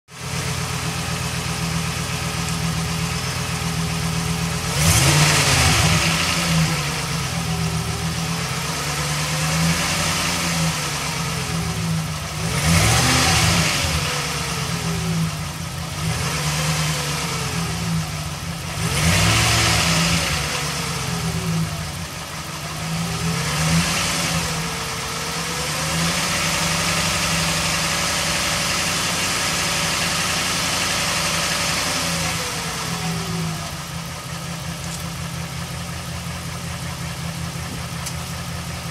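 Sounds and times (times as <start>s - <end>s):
car engine idling and revving: 0.1s - 38.9s
exhaust rattle: 0.2s - 38.9s.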